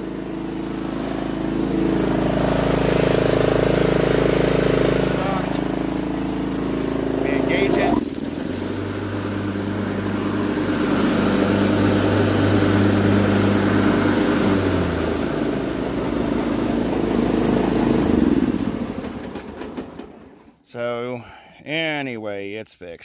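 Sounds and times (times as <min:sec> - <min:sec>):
mower engine running: 0:00.0 - 0:20.5.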